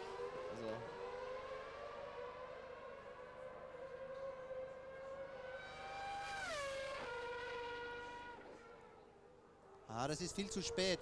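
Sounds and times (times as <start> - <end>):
racing car engine whine: 0.0 - 11.0.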